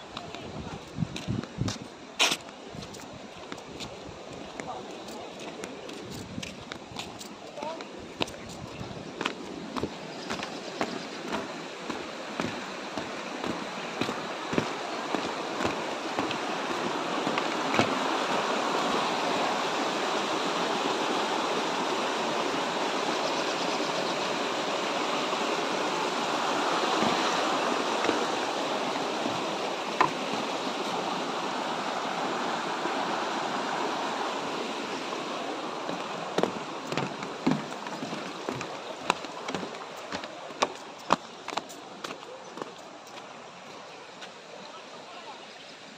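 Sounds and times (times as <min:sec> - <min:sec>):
river water rushing at waterfall: 0:00.0 - 0:45.9.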